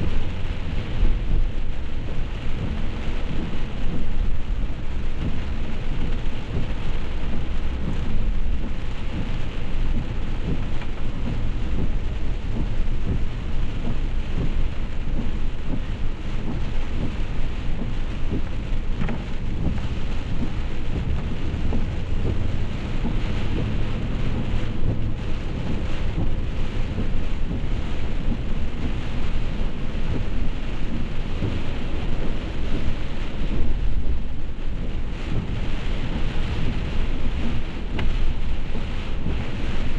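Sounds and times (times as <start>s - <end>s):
heavy rain hissing: 0.0s - 39.9s
low rumble: 0.0s - 39.9s.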